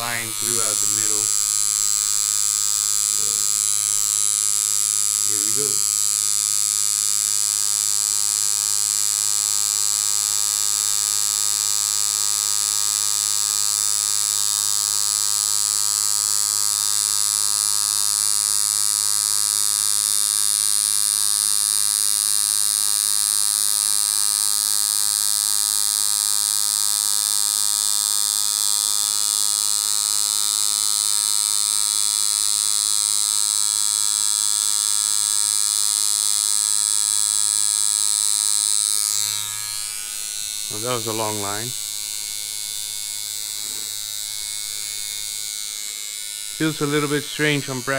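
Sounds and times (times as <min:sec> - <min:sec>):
tattoo machine buzzing: 0:00.0 - 0:47.9.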